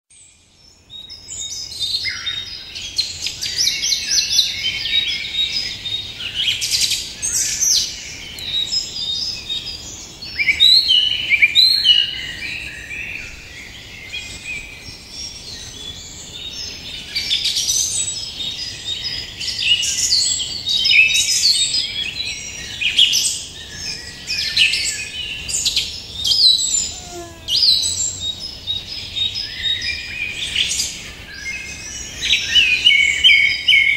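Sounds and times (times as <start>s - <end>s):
birds singing and chirping: 0.2s - 33.9s.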